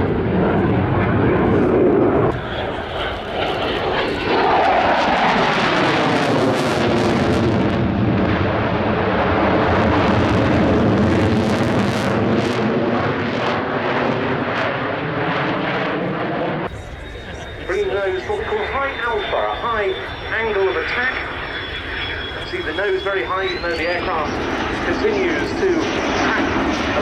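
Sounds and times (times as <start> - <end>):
jet engine roaring: 0.0 - 27.0.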